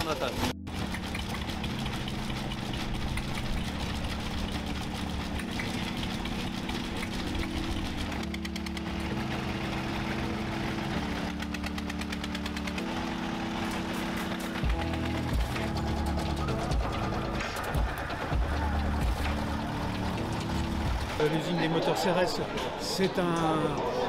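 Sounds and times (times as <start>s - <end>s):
old engines knocking: 0.0s - 21.8s.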